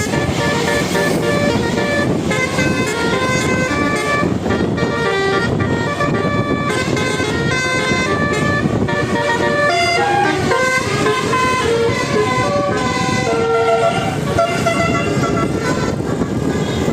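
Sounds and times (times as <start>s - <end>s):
musical air horn melody: 0.0s - 16.9s.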